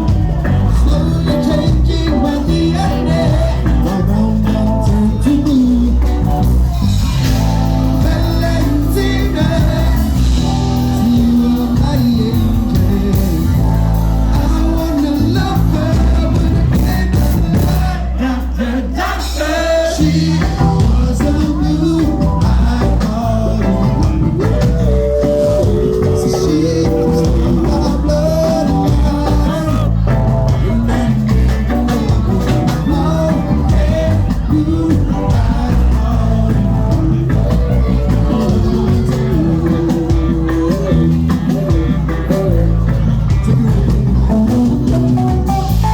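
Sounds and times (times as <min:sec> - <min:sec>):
band playing with singing: 0:00.0 - 0:45.9.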